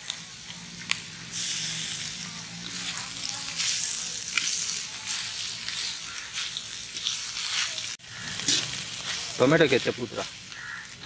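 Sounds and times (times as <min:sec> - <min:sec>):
vegetables and meat sizzling: 0:00.0 - 0:11.0.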